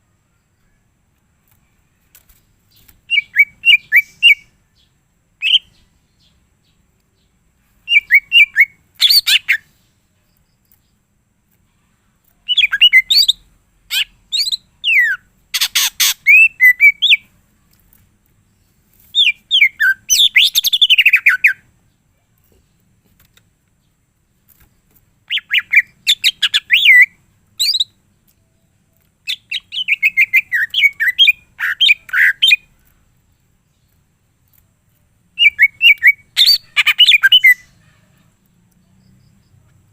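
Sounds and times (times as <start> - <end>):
bird singing chirps and trills: 2.7 - 11.1, 12.2 - 17.9, 18.6 - 22.9, 23.7 - 39.8.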